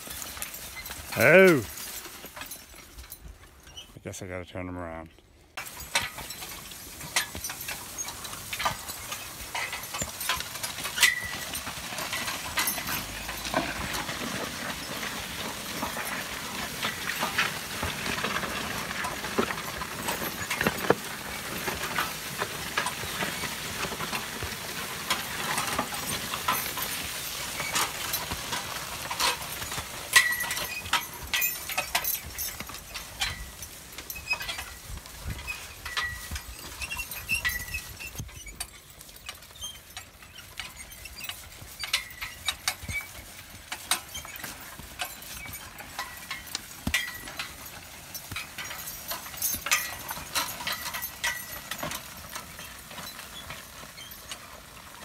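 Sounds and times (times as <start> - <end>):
plow scraping and tearing soil: 0.0 - 4.1, 5.6 - 55.0
harness and plow clinking: 0.0 - 55.0.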